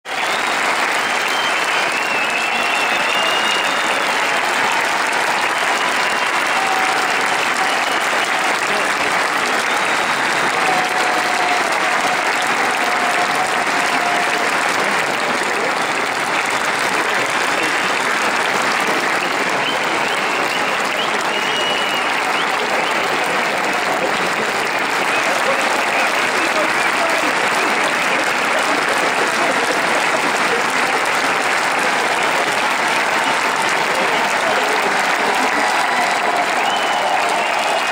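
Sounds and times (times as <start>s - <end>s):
audience applauding: 0.0s - 37.9s.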